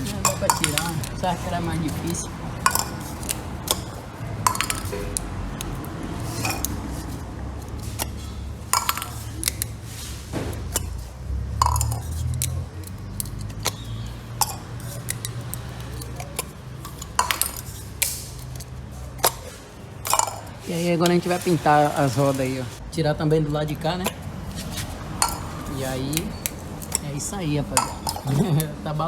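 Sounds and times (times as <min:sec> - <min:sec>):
lug nut covers clinking: 0:00.0 - 0:22.6, 0:23.4 - 0:29.0.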